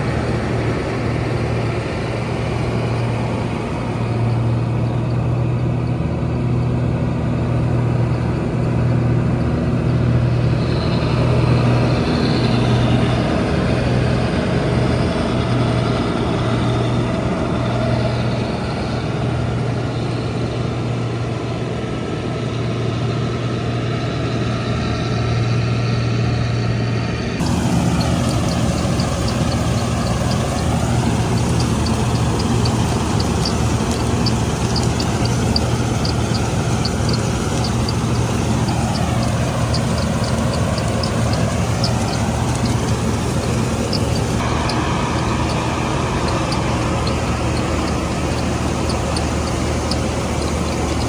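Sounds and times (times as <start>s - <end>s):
combine harvester engine droning: 0.0s - 51.0s.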